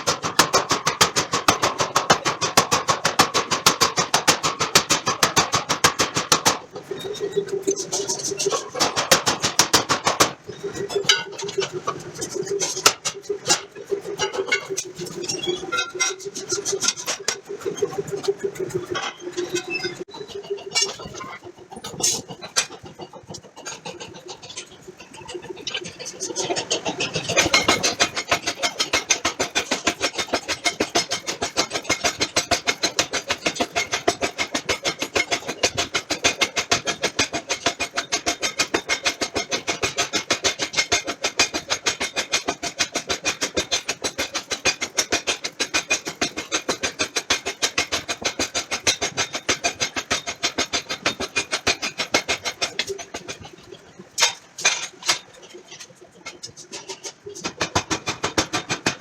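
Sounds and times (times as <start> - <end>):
power hammer pounding steel: 0.0 - 59.0.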